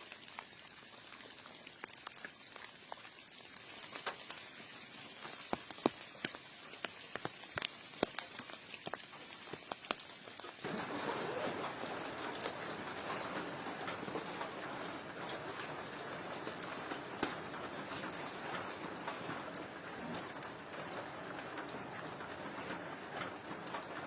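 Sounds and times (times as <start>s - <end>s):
rain falling and dripping: 0.0s - 24.0s.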